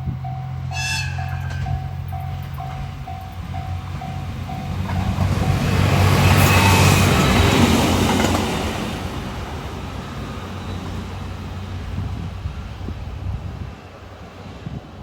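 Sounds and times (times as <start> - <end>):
train running past: 0.0 - 15.0.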